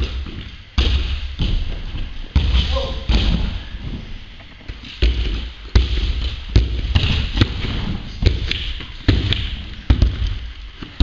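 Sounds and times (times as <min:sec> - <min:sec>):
jumping stilts thudding: 0:00.0 - 0:11.0.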